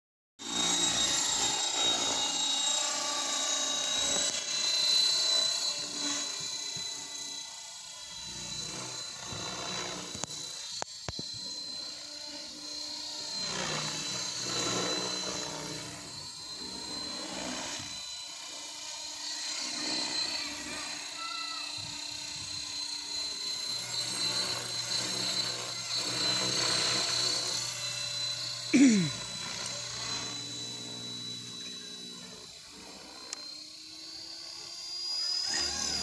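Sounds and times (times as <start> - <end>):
electric motor whine: 0.4 - 36.0
rotor blades buzzing: 0.4 - 36.0.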